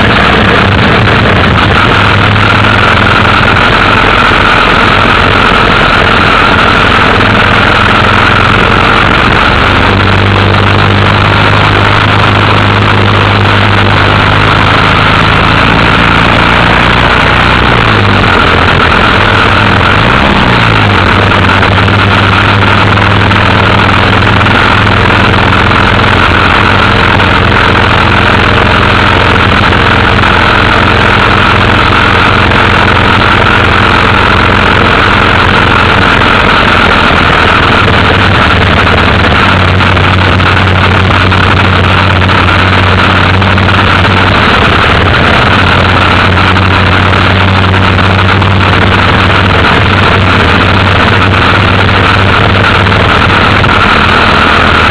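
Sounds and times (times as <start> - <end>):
dense rushing noise: 0.0 - 54.9
motorcycle engine cruising: 0.0 - 54.9.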